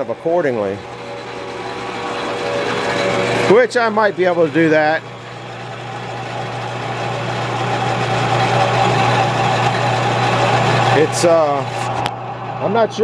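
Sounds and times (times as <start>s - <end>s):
lathe cutting wood: 0.0s - 13.0s
motor hum: 0.0s - 13.0s.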